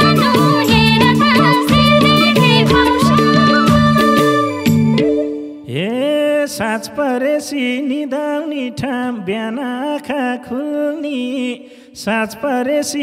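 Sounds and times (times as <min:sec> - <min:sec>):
person singing folk song: 0:00.0 - 0:04.6, 0:05.7 - 0:13.0.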